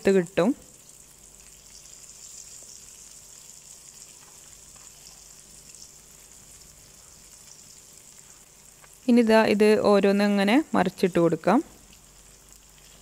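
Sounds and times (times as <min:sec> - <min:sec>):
batter sizzling in oil: 0:00.0 - 0:13.0.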